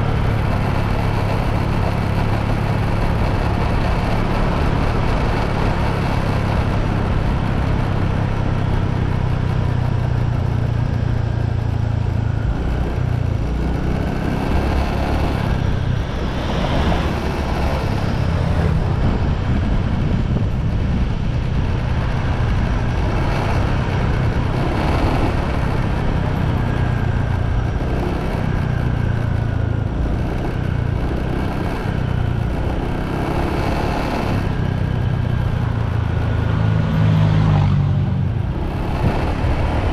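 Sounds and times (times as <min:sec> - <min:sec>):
motorbike riding at speed: 0:00.0 - 0:39.9.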